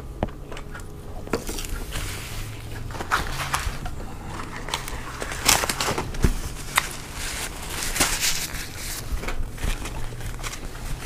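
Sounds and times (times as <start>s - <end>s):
paper and wrappers crinkling: 0.6s - 11.0s.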